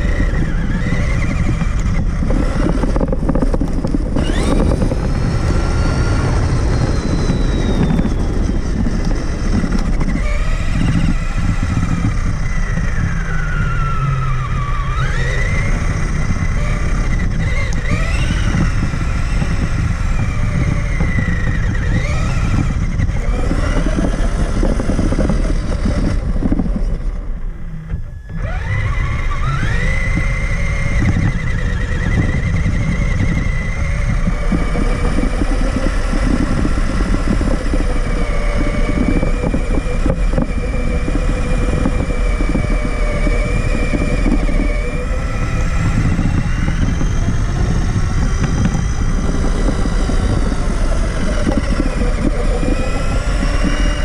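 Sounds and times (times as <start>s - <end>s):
chassis and tyres rumbling: 0.0s - 54.0s
rc truck motor whining: 0.0s - 54.0s.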